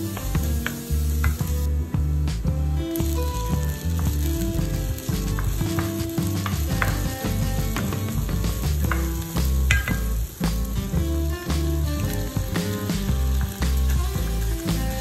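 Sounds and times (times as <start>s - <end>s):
vegetables sizzling in frying pan: 0.0s - 1.7s, 2.8s - 15.0s
low background music: 0.0s - 15.0s.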